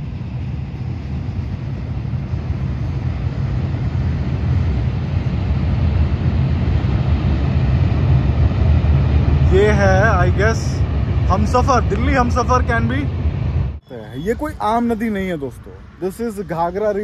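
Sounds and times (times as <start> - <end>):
train rumbling over bridge: 0.0 - 17.0.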